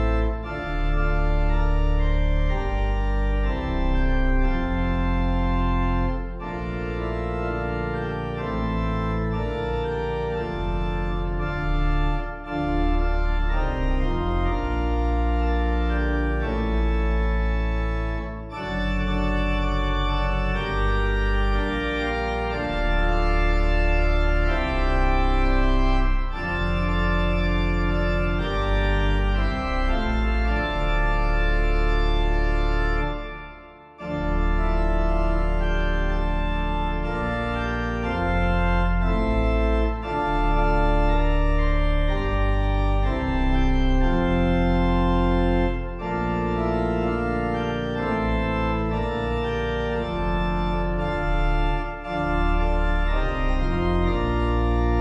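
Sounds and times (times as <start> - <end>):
organ playing hymn chords: 0.0 - 55.0.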